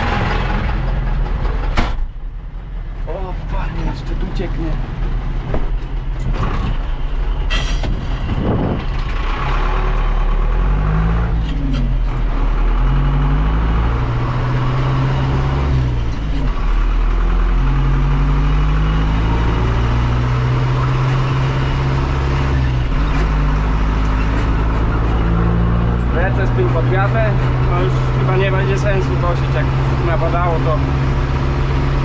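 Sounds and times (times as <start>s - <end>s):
vehicle engine running under load: 0.0s - 32.0s.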